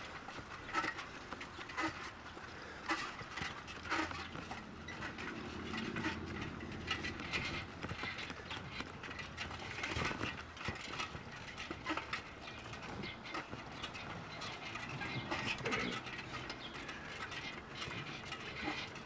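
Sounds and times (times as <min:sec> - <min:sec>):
bicycle parts rattling: 0:00.0 - 0:19.0
tyres rumbling on pavement: 0:00.0 - 0:19.0
wind: 0:00.0 - 0:19.0.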